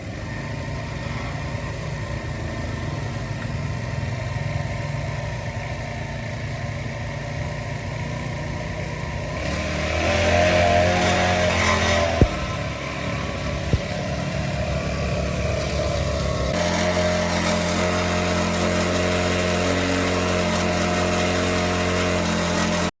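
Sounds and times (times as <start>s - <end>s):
small two-stroke engine running: 0.0s - 23.0s.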